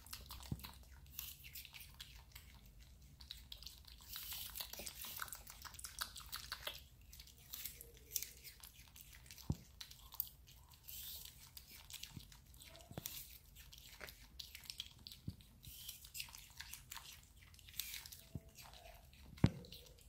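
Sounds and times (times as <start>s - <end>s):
monkeys chewing fruit: 0.0s - 20.0s.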